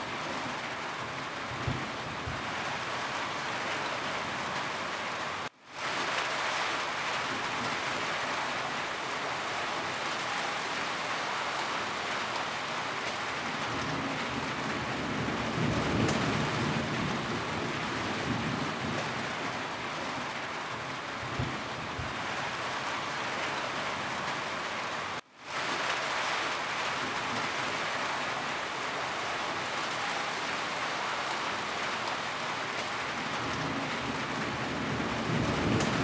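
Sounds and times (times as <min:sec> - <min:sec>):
heavy rain on a roof: 0:00.0 - 0:36.0.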